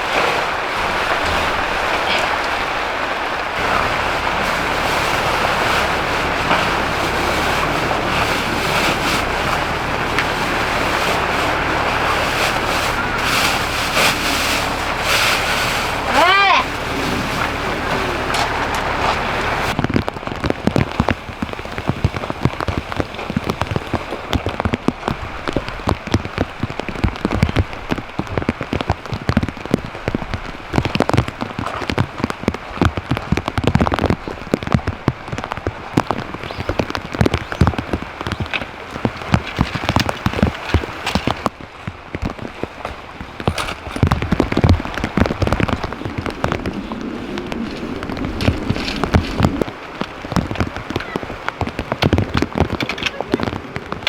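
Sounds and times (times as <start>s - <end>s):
rain drops pattering: 0.0s - 54.0s.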